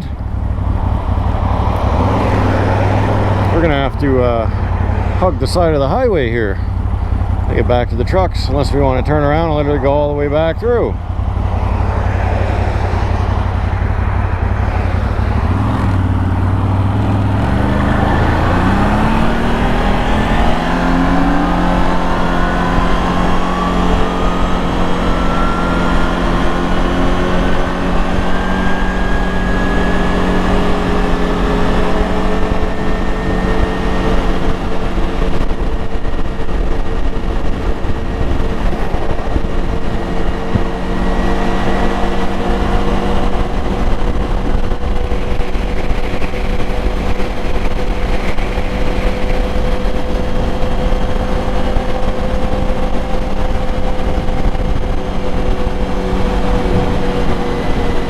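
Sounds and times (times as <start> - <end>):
atv engine running: 0.0 - 58.0
engine whine: 0.0 - 58.0.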